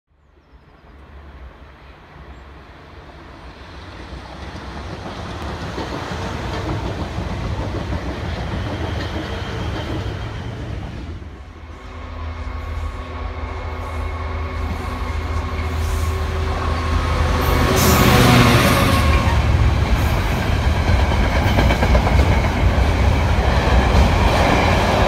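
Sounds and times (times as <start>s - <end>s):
diesel locomotive engine hum: 0.2s - 25.0s
train wheel and rail noise: 0.4s - 25.0s.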